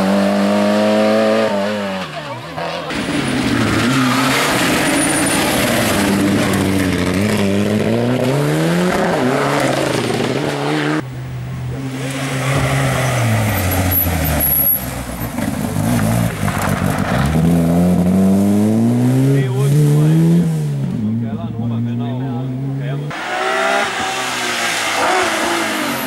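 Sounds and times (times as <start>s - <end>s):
rally car engine revving: 0.0s - 11.0s, 11.7s - 26.0s.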